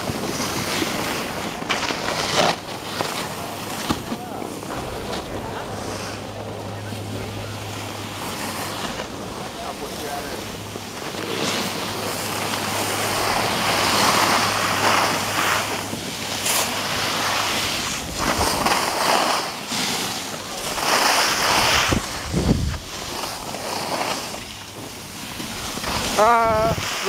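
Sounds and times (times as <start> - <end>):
edges sliding over snow: 0.0 - 27.0
wind rushing over microphone: 2.6 - 11.0, 11.6 - 19.6, 20.3 - 27.0.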